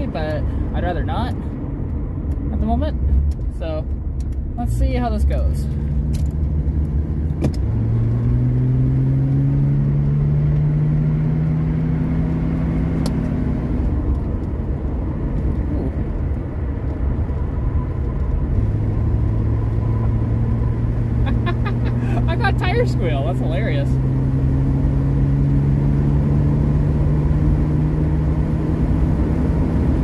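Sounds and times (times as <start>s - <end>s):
car engine accelerating: 0.0s - 30.0s
road and wind noise: 0.0s - 30.0s.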